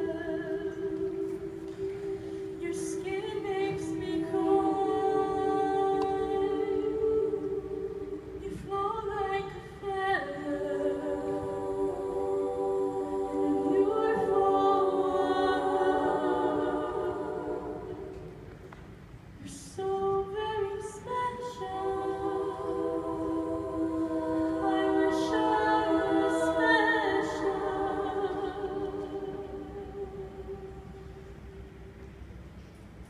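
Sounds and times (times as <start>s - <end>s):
women singing close harmony: 0.0s - 18.7s, 19.4s - 31.3s.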